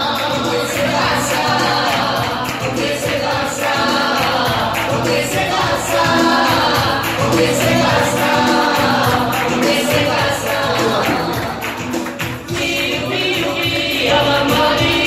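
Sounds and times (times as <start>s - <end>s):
man and woman singing: 0.0s - 15.0s
music with steady beat: 0.0s - 15.0s.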